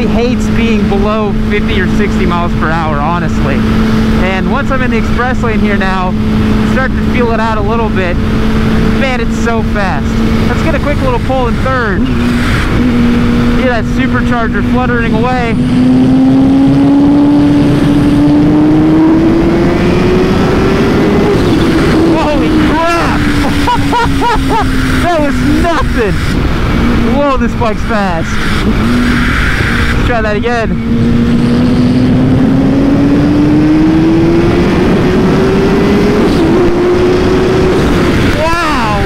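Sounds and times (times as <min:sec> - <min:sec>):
motorcycle engine accelerating: 0:00.0 - 0:39.0
wind rush: 0:00.0 - 0:39.0.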